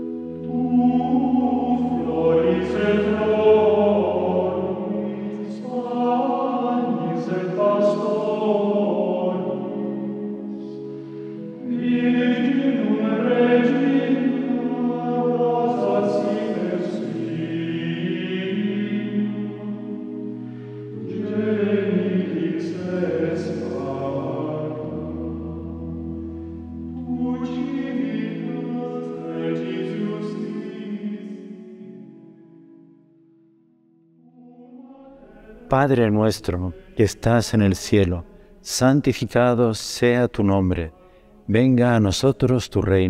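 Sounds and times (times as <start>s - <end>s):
choir singing slow chant: 0.0s - 32.1s, 34.3s - 38.9s.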